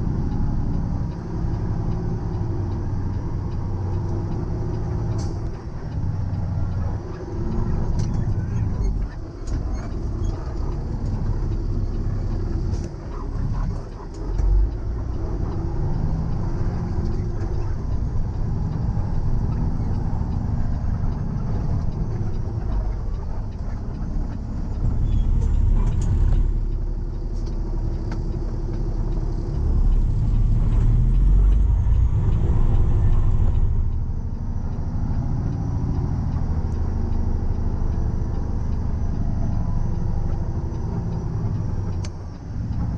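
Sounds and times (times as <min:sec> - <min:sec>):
tow truck engine running: 0:00.0 - 0:42.9.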